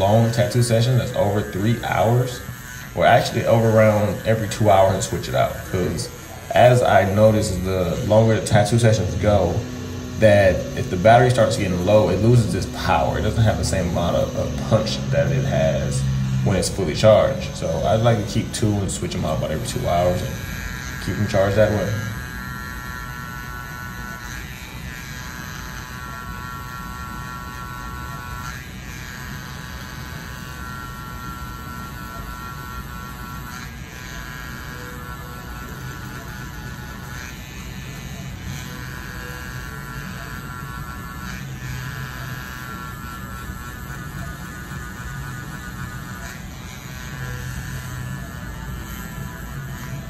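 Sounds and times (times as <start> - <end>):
tattoo pen buzzing: 0.0 - 50.0.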